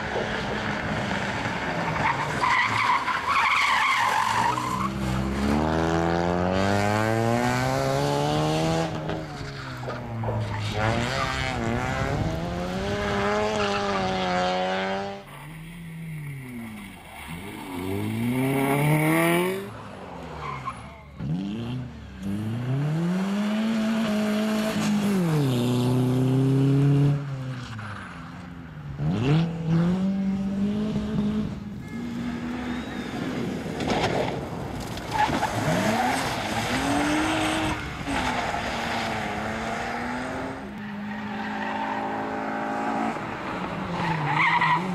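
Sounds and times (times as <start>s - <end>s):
race car engines revving: 0.0s - 44.9s.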